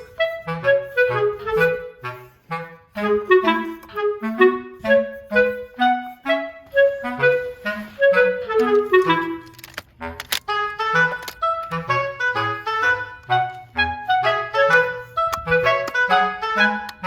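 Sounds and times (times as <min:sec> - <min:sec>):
bouncy clarinet-like tune: 0:00.0 - 0:17.0.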